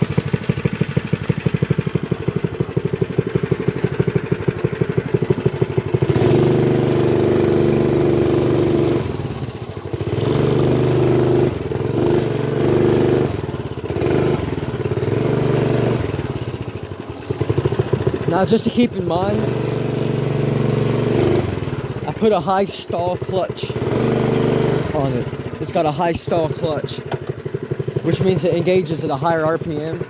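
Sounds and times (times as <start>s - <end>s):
minibike engine idling and revving: 0.0s - 30.0s.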